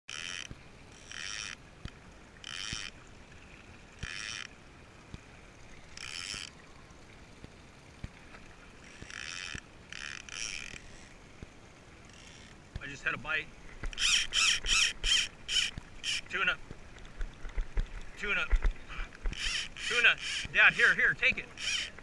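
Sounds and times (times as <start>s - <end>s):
small waves splashing against hull: 0.1s - 22.0s.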